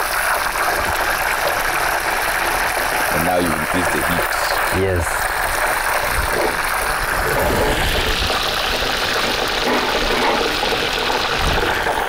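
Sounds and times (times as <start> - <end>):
oil sizzling and bubbling: 0.0 - 12.0.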